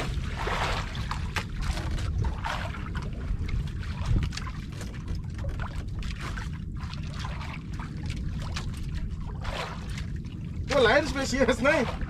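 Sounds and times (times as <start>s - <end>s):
low rumble: 0.0s - 12.0s
water splashing against boat hull: 0.0s - 12.0s.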